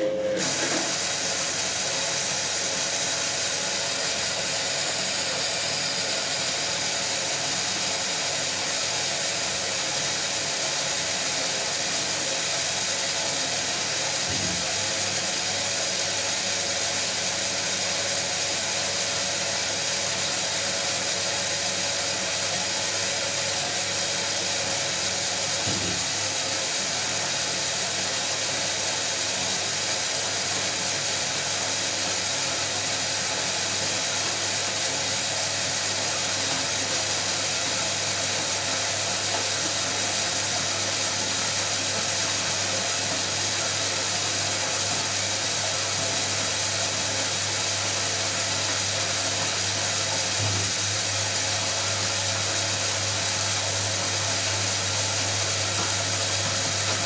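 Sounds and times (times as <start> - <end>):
washing machine water hiss and hum: 0.0 - 57.0.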